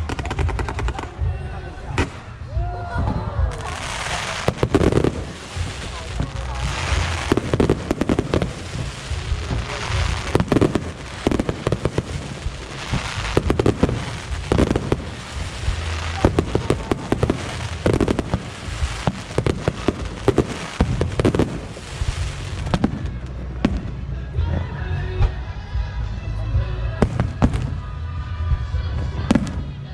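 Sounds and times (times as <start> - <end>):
fireworks bangs and crackles: 0.0 - 25.4, 26.9 - 29.9
low rumble: 0.0 - 29.9.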